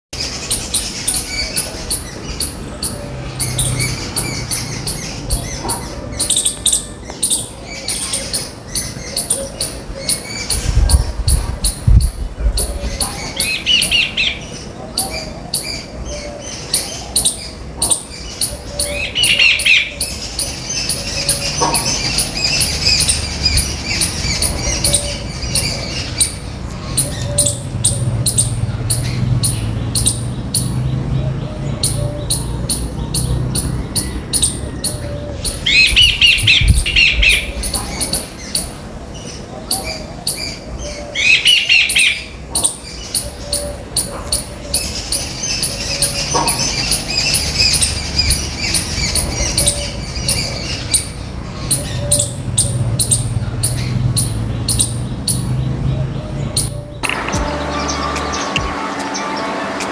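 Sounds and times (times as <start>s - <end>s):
small birds chirping: 0.1s - 58.8s.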